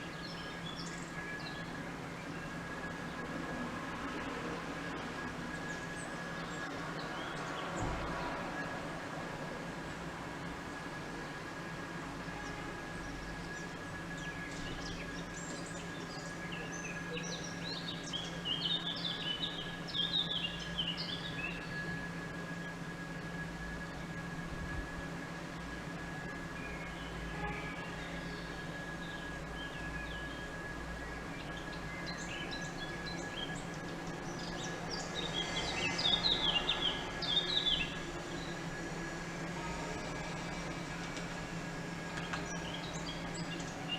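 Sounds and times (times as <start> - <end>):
faint constant hum: 0.0 - 43.9
outdoor background noise: 0.0 - 43.9.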